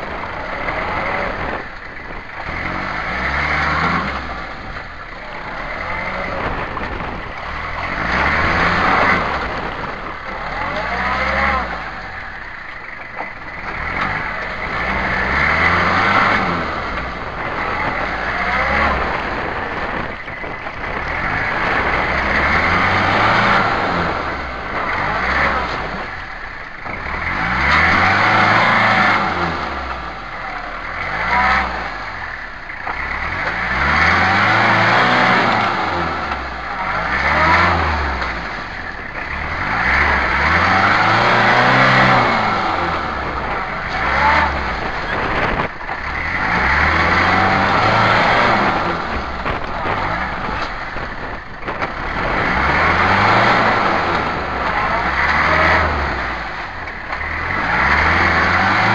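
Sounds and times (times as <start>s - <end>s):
pickup engine revving: 0.0s - 58.9s
tyres churning wet sand: 0.0s - 58.9s.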